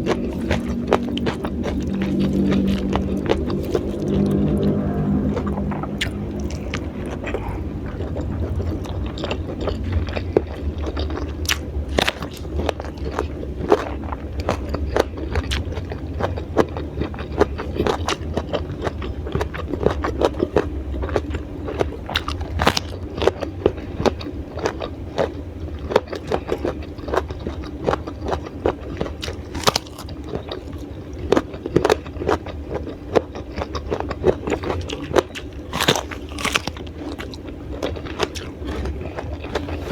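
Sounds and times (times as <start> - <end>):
crunchy chewing of vegetables: 0.0 - 39.9
steady low hum: 0.0 - 39.9.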